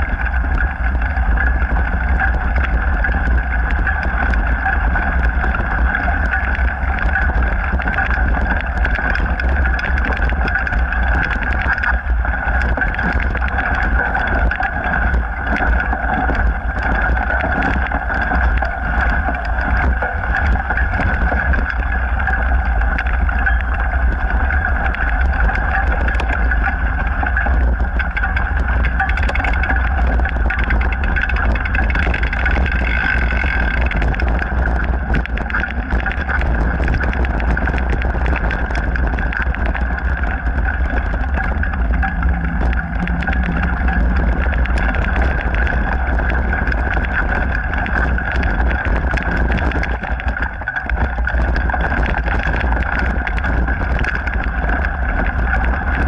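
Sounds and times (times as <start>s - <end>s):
bike rattling and clicking: 0.0s - 56.0s
wind rumble on microphone: 0.0s - 56.0s.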